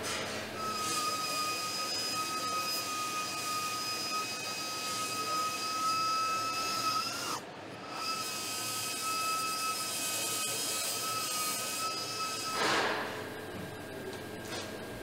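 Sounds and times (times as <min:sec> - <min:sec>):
power tool whining: 0:00.6 - 0:12.6.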